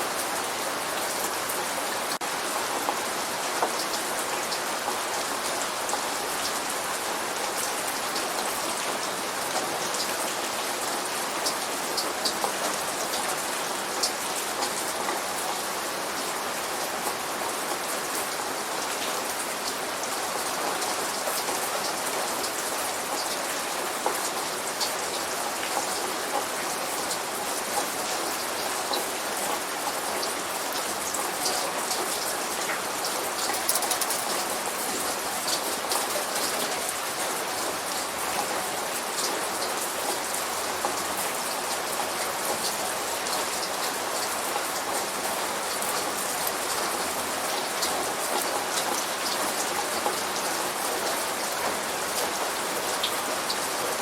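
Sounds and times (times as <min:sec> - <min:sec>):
light rain hiss: 0:00.0 - 0:54.0.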